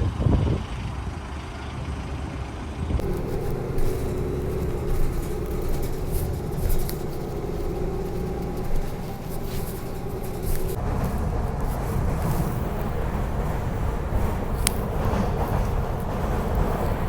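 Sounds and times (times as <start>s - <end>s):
steady hum: 3.0s - 17.0s
vehicle engine rumbling: 3.0s - 17.0s.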